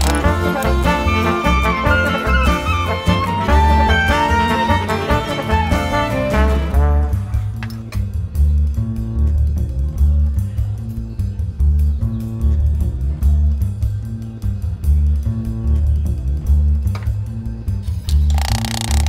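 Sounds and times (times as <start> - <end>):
music with repeating bass line: 0.0 - 19.0.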